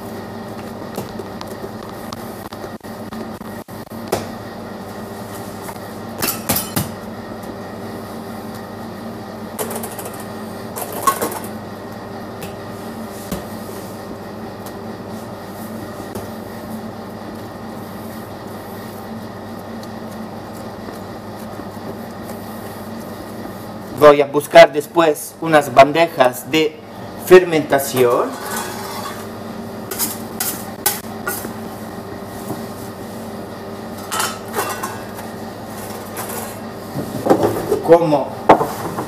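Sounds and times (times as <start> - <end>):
kitchen machinery humming: 0.0 - 39.0.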